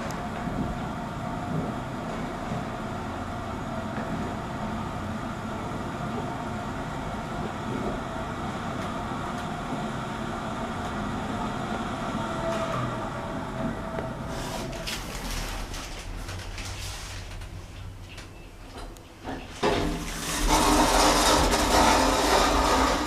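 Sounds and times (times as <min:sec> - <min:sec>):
lift running hum and rumble: 0:00.0 - 0:23.0.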